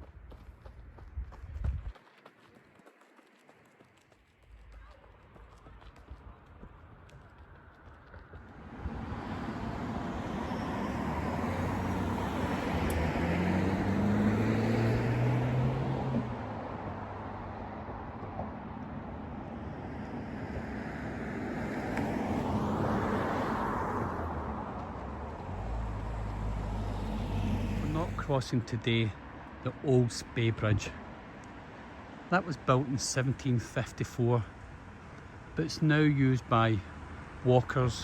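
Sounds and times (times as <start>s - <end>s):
cars passing by: 4.6s - 38.0s.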